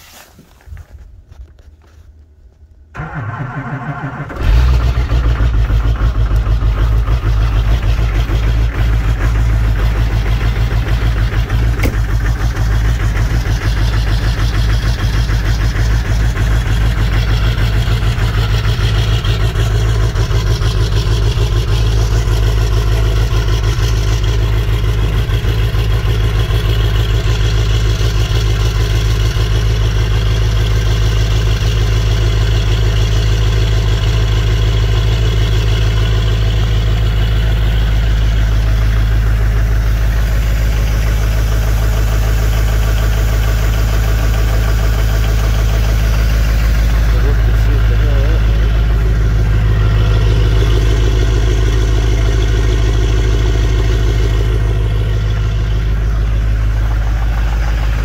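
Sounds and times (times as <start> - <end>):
diesel engine idling: 2.9 - 58.0
engine cranking: 2.9 - 58.0.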